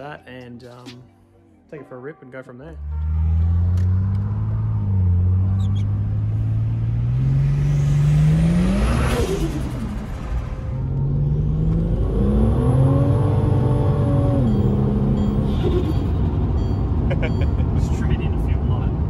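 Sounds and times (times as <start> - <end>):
car engine accelerating: 2.7 - 19.0.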